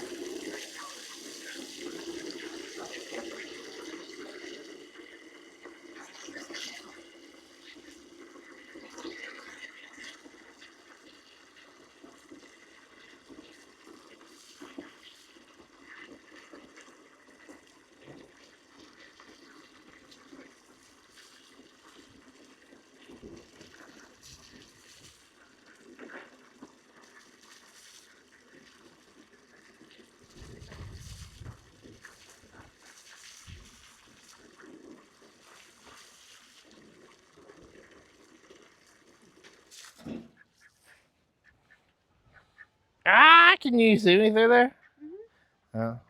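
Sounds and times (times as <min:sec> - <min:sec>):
faint running water: 0:00.0 - 0:41.8.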